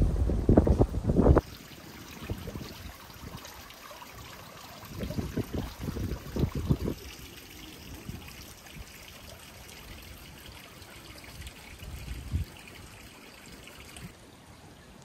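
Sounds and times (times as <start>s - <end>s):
water trickling in a channel: 1.4s - 14.3s.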